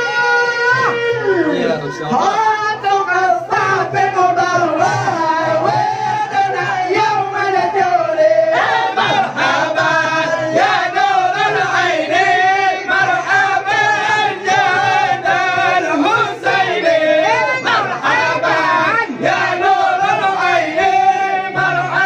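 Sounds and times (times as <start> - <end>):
men singing in unison: 0.0 - 22.0.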